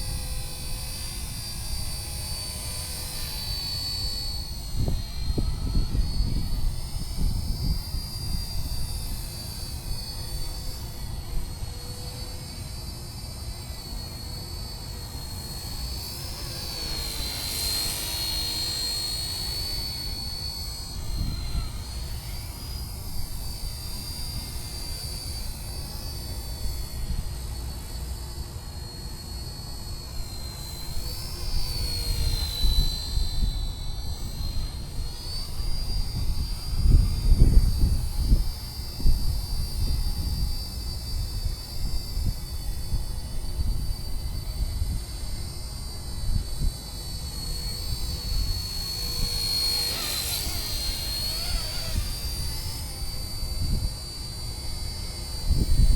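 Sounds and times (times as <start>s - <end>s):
model helicopter whine: 0.0s - 55.9s.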